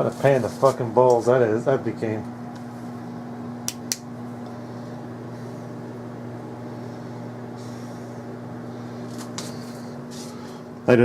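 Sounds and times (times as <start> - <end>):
electrical hum of appliance: 0.0 - 11.0.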